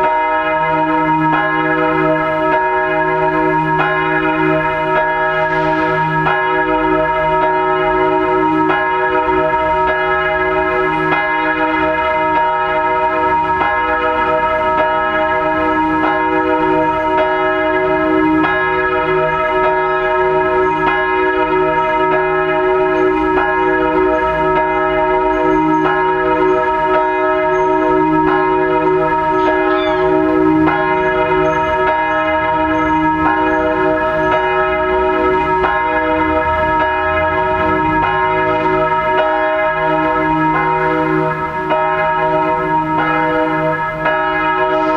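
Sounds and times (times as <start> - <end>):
church bell tolling: 0.0 - 44.9.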